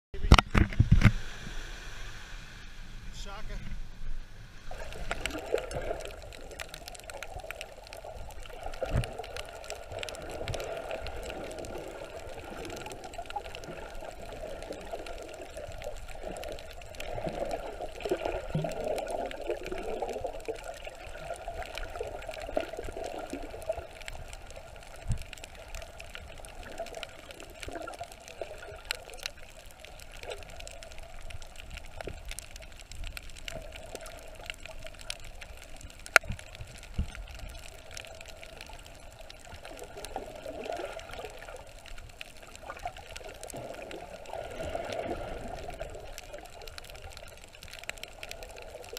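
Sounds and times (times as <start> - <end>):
muffled underwater sloshing: 4.4 - 48.9
sharp underwater clicks: 4.7 - 48.9.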